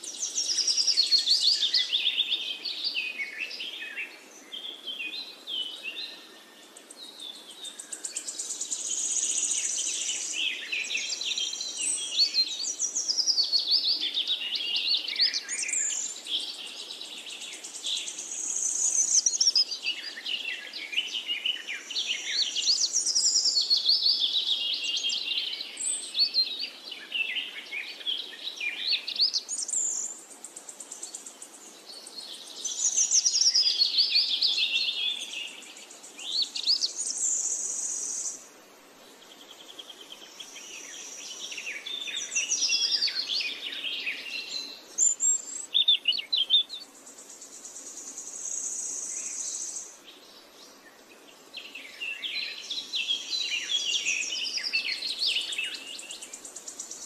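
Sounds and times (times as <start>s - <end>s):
birds chirping and singing: 0.0s - 38.4s, 39.2s - 57.0s.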